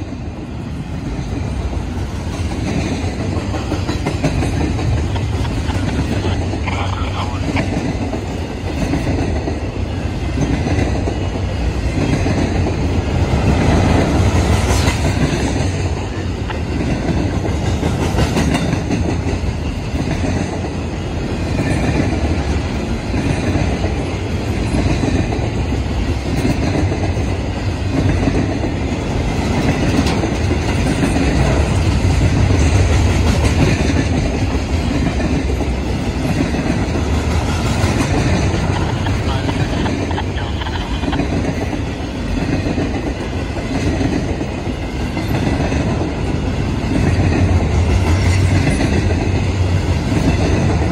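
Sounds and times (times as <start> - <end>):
freight train rumbling past: 0.0 - 50.9
wheels clacking over rails: 0.8 - 6.8, 7.4 - 50.9.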